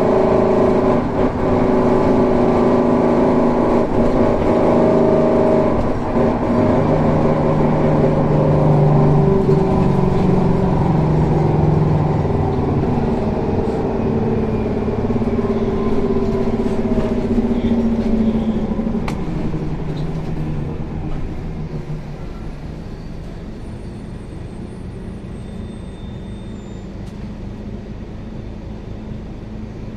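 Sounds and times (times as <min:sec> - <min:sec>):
bus engine running: 0:00.0 - 0:29.9.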